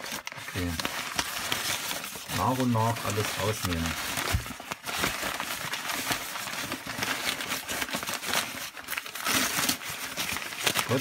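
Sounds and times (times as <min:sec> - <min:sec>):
packing paper rustling: 0:00.0 - 0:11.0.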